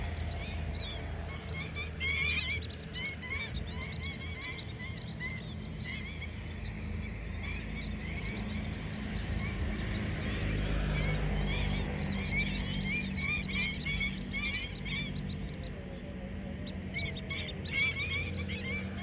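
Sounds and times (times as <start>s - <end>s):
flock of birds calling: 0.0s - 19.0s
low steady hum: 0.0s - 19.0s.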